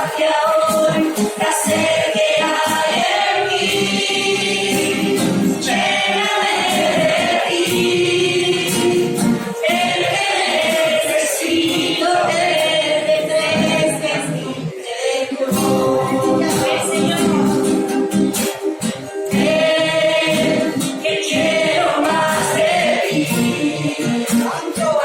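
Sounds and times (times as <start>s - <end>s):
choir singing worship song: 0.0s - 25.0s.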